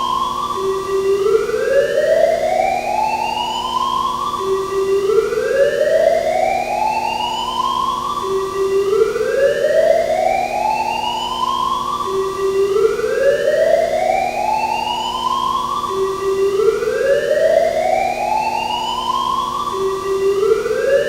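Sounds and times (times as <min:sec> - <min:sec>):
fire alarm whoop: 0:00.0 - 0:21.0.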